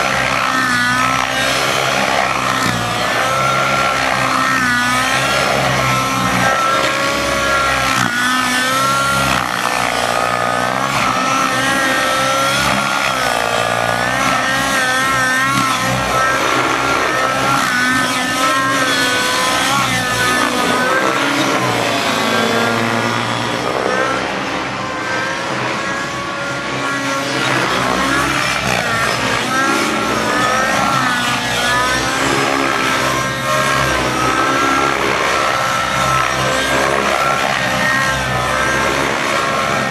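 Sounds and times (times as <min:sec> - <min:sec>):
rc helicopter engine and rotor: 0:00.0 - 0:39.9.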